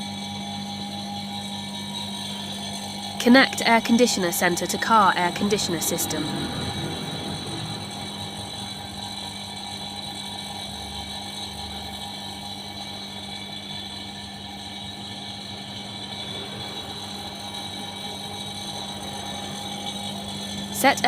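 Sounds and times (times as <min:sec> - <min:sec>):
vacuum pump humming: 0:00.0 - 0:21.0.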